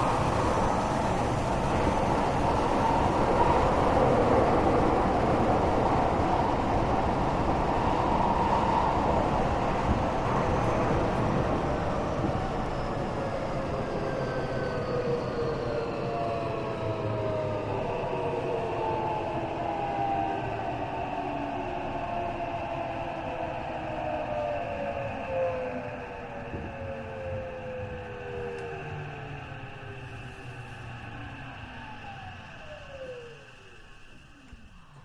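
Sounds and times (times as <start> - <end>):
train rail rumble: 0.0 - 35.0.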